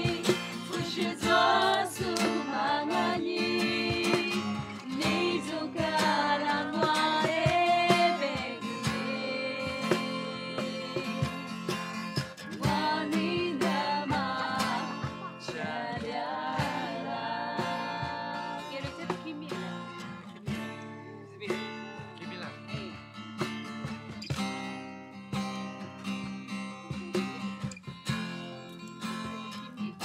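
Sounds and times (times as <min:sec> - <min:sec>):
song with singing and guitar: 0:00.0 - 0:30.0.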